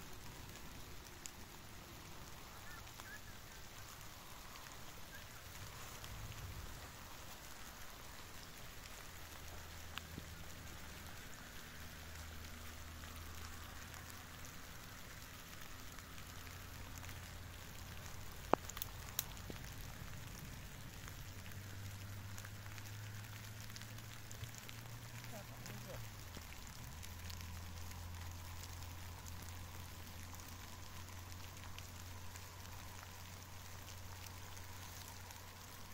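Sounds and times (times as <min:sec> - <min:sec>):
light rain falling: 0:00.0 - 0:35.9.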